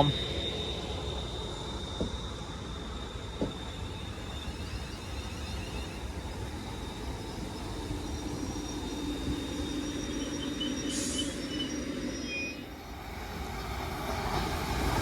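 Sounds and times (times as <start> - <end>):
high squeal-like tones: 0.0 - 12.9
train rumbling on rails: 0.0 - 15.0.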